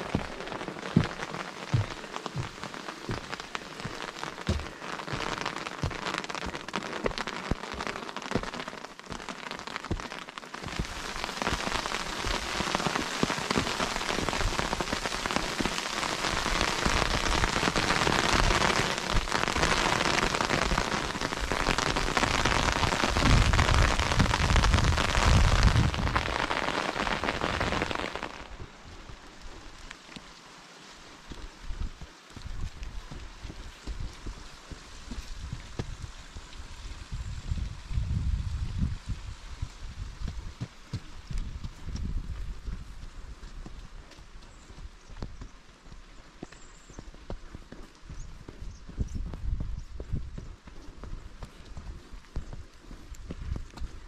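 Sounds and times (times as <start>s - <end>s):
rain on stone and vegetation: 0.0s - 54.0s.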